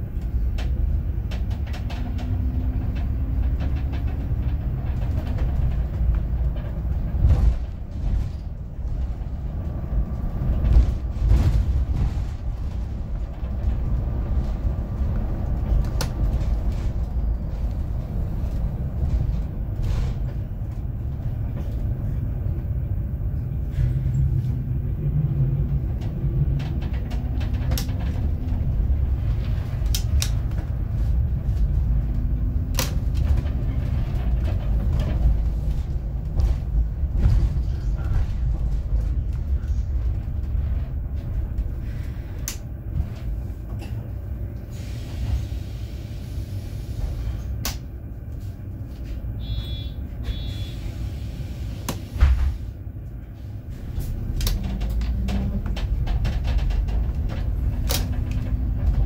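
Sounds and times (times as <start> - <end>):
bus engine and road rumble: 0.0 - 59.0
knocks and rattles from bus body: 0.0 - 59.0.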